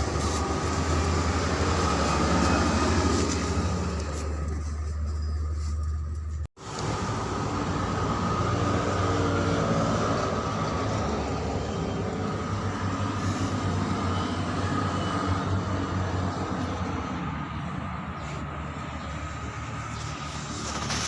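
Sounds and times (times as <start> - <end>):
large engine running: 0.0 - 21.0.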